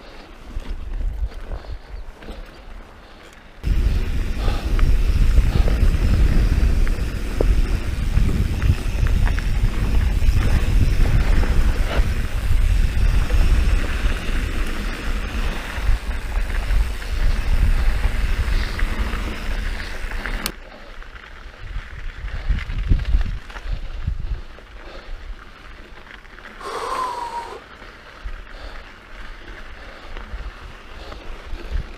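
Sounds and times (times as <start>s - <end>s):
wind noise on microphone: 0.0s - 2.4s, 3.6s - 25.4s, 29.4s - 31.9s
mountain bike rattling on dirt: 0.0s - 31.9s.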